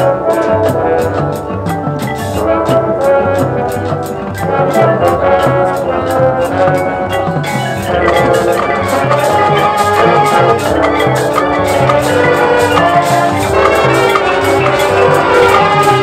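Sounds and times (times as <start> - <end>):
drum hits: 0.0 - 16.0
marching band playing: 0.0 - 16.0.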